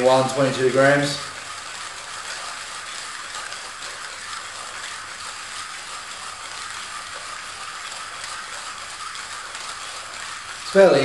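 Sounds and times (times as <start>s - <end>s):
hand coffee grinder grinding beans: 0.0s - 11.0s.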